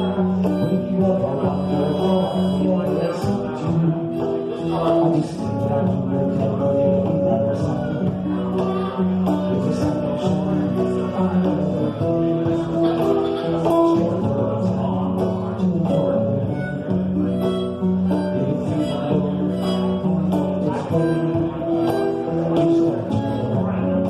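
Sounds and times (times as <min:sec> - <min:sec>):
guitar: 0:00.0 - 0:24.0
small band playing live: 0:00.0 - 0:24.0.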